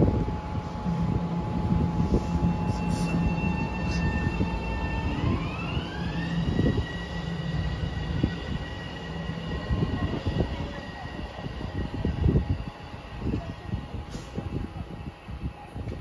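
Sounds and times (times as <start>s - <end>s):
electric train motor whine: 0.0s - 15.5s
low train rumble: 0.0s - 16.0s.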